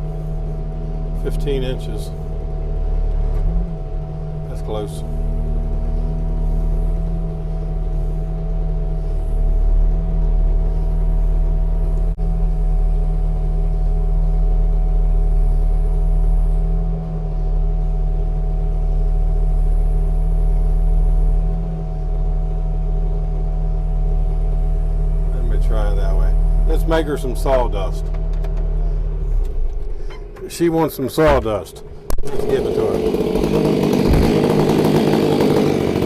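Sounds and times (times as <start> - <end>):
diesel engine running: 0.0 - 36.0
steady whine: 0.0 - 36.0.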